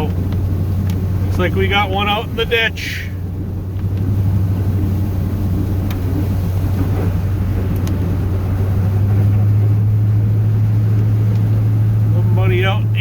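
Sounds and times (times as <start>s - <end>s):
truck engine low drone: 0.0s - 13.0s.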